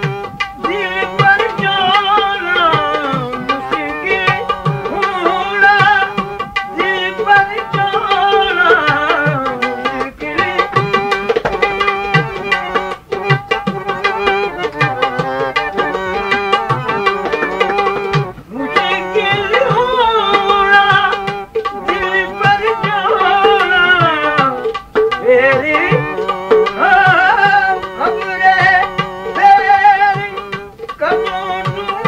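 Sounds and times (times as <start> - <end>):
man singing: 0.0 - 32.0
tabla strokes: 0.0 - 32.0.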